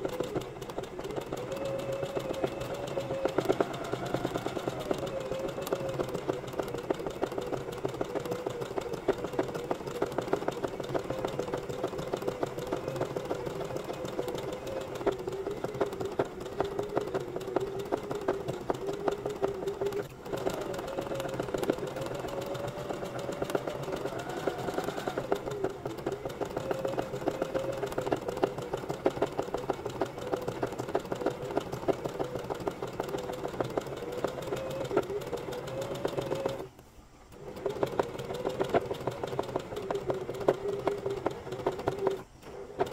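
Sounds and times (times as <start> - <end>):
sewing machine motor whine: 0.0 - 42.9
sewing machine needle clicks: 0.0 - 42.9.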